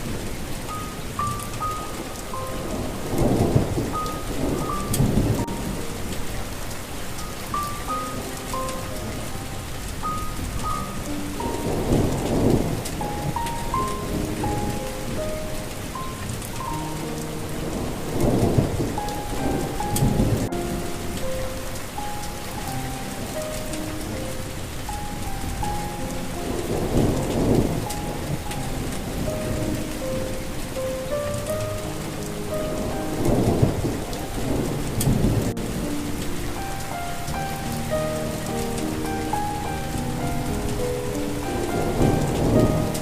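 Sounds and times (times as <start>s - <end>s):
rolling thunder: 0.0s - 43.0s
soft melody of single notes: 0.0s - 43.0s
steady rain falling: 0.0s - 43.0s.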